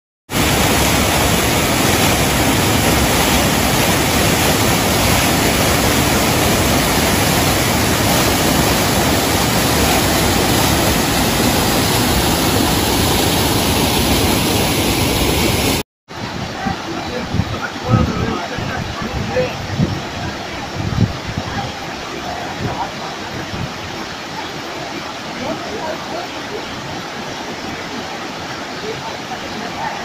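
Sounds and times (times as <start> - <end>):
waterfall rushing over rocks: 0.3 - 30.0.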